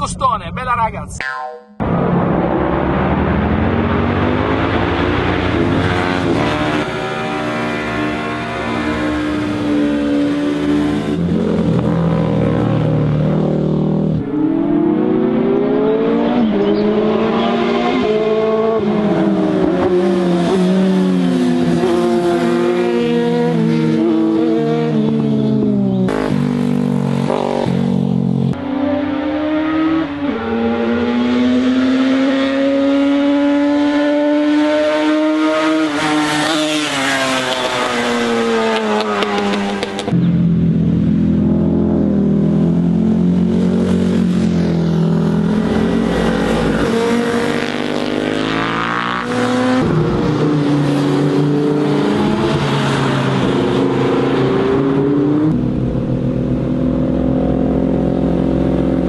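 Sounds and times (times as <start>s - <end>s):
vehicle engines revving high: 1.8s - 59.0s.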